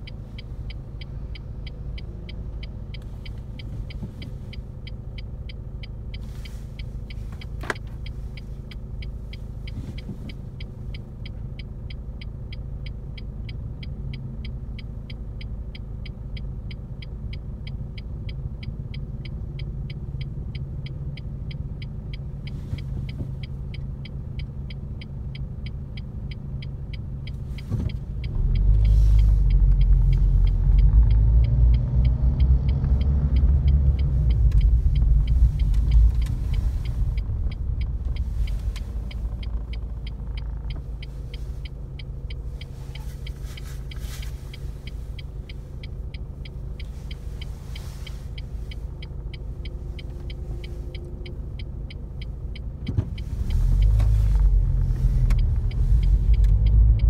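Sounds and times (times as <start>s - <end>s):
car engine and road rumble: 0.0s - 57.0s
light ticking: 0.0s - 57.0s.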